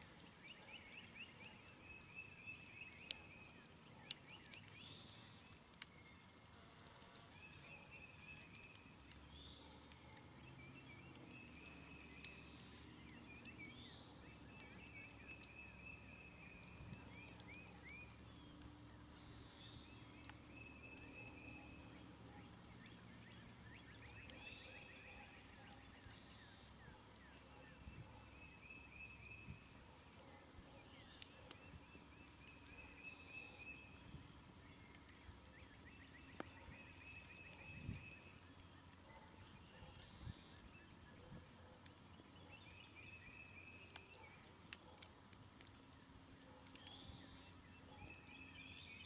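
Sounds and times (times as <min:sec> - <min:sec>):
campfire crackling and popping: 0:00.0 - 0:49.0
birds chirping: 0:00.2 - 0:49.0.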